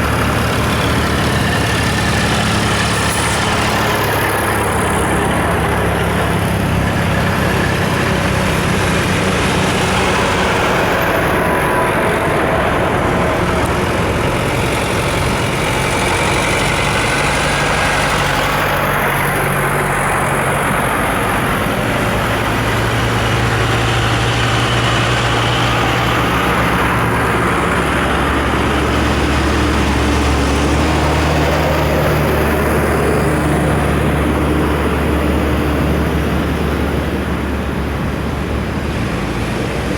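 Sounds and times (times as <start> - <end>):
road noise: 0.0 - 39.9
tractor diesel engines passing: 0.0 - 39.9.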